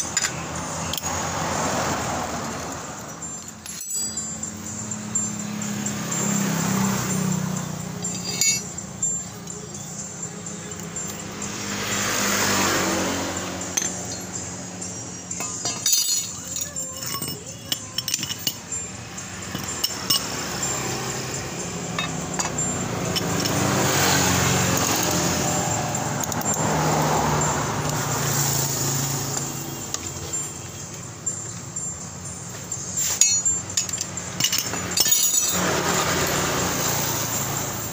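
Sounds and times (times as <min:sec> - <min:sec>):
metal tools clinking: 0:00.0 - 0:37.9
vehicle engine noise: 0:00.0 - 0:37.9.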